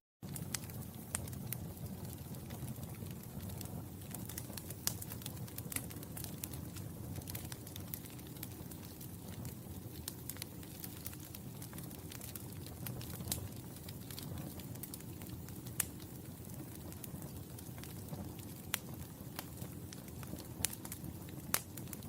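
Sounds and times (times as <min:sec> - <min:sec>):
fire crackling in fireplace: 0:00.2 - 0:22.0.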